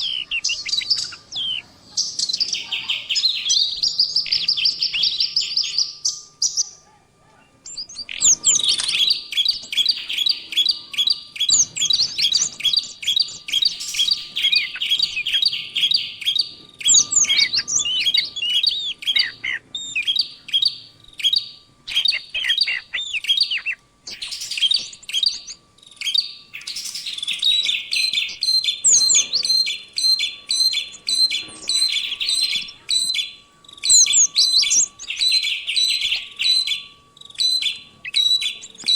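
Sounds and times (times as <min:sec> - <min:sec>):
songbird chirps and trills: 0:00.0 - 0:38.9.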